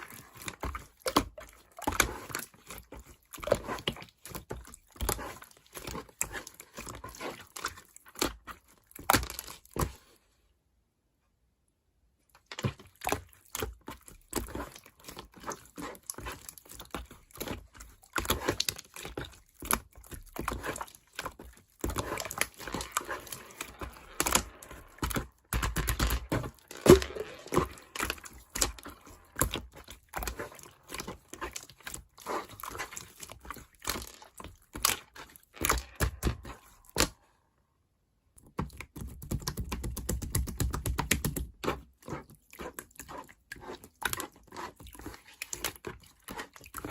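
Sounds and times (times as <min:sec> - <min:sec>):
slime squelching and popping: 0:00.0 - 0:10.0, 0:12.4 - 0:37.2, 0:38.4 - 0:46.9.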